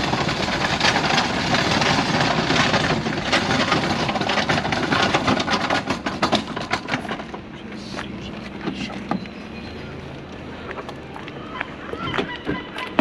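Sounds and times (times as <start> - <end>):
hand truck wheels rattling on asphalt: 0.0 - 13.0.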